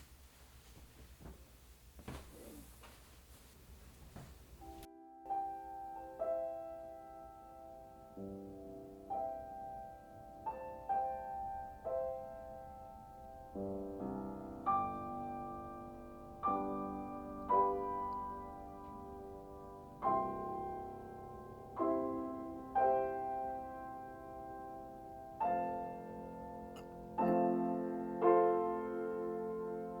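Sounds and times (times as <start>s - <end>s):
gentle solo piano: 4.6s - 30.0s.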